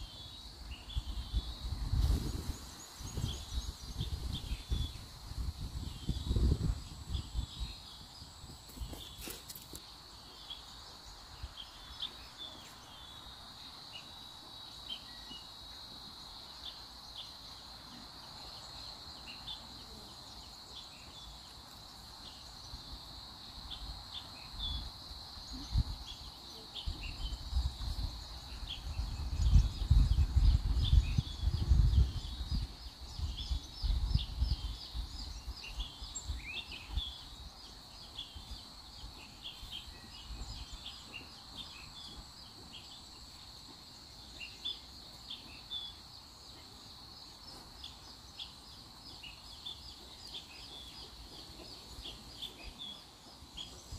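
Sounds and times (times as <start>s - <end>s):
birds chirping: 0.0s - 53.9s
insects chirring: 0.0s - 53.9s.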